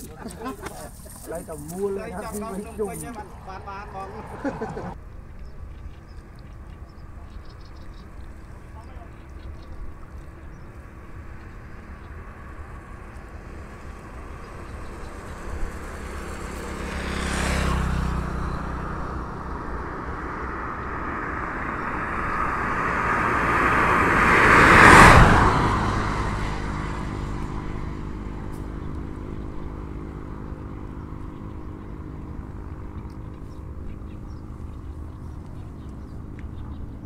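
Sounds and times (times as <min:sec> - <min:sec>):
motor vehicles passing by: 0:00.0 - 0:37.0.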